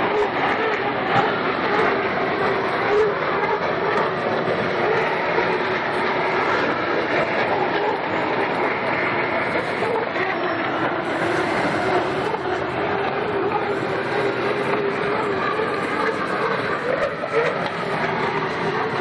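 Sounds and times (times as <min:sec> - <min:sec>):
hydroplane turbine engines rushing: 0:00.0 - 0:19.0.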